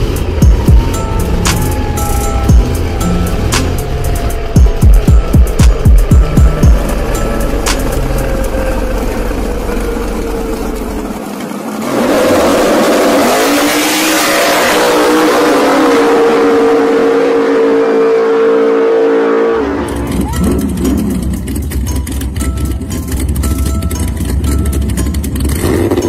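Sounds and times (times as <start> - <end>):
rushing noise: 0.0 - 21.4
race car engines at high revs: 0.0 - 23.5, 24.1 - 26.0.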